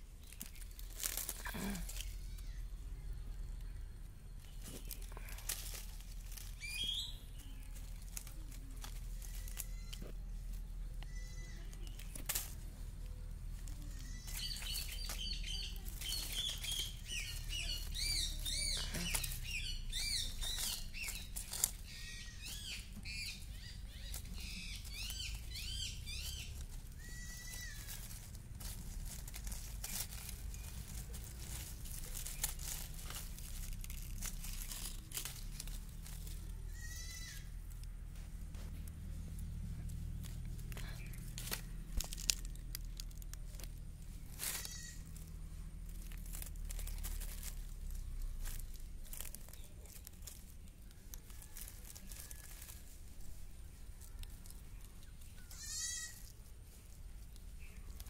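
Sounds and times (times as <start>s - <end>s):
birds chirping: 0.0s - 58.0s
dry leaves crackling: 0.0s - 58.0s.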